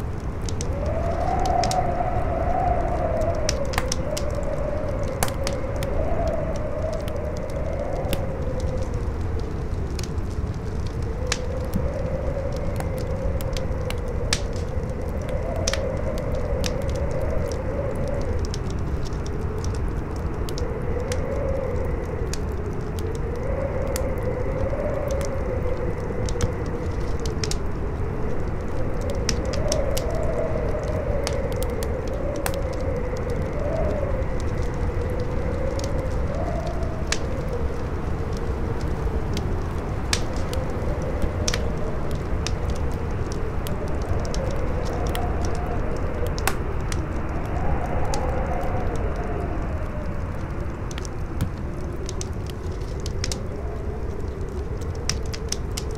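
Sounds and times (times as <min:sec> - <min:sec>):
campfire crackling and popping: 0:00.0 - 0:55.9
howling wind: 0:00.0 - 0:55.9.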